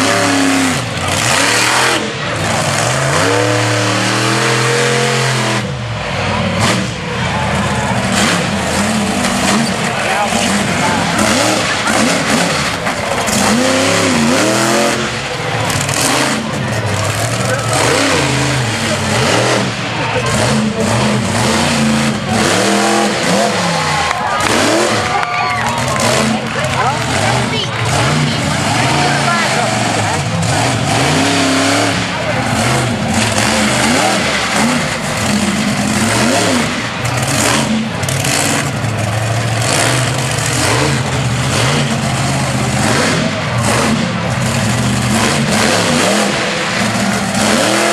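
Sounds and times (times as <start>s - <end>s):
monster truck engine revving: 0.0s - 47.9s.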